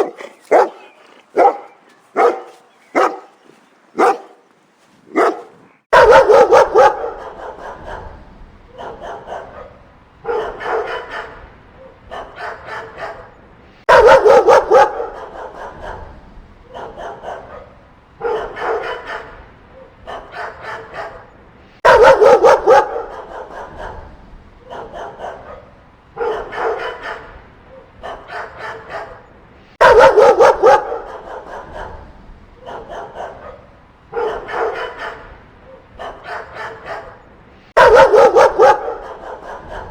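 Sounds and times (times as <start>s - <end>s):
dogs barking: 0.0s - 39.9s.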